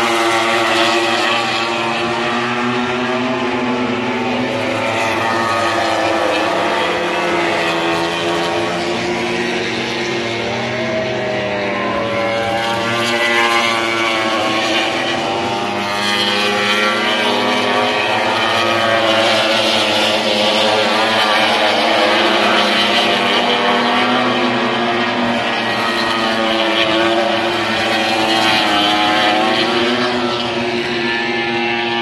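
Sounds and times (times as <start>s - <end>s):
racing motorcycles at high revs: 0.0s - 32.0s.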